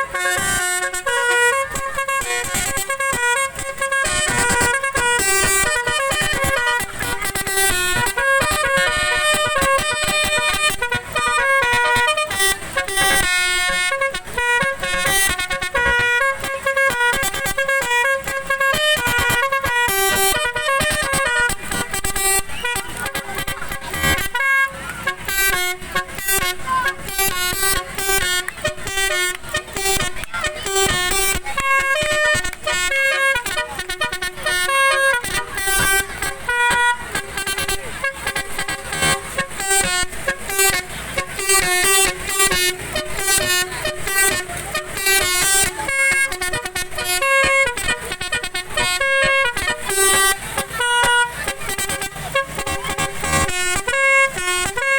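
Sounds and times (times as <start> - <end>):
multi-tone horn playing tune: 0.0 - 54.9.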